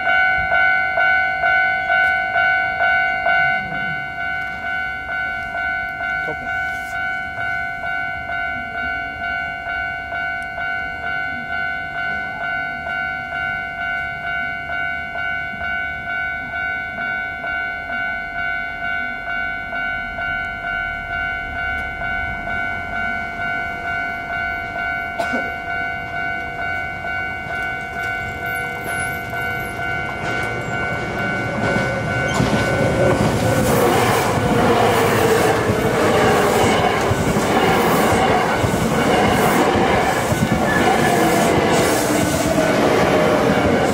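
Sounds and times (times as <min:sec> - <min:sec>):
railway crossing bell ringing: 0:00.0 - 0:43.9
train rumble and wheel clatter: 0:00.0 - 0:43.9.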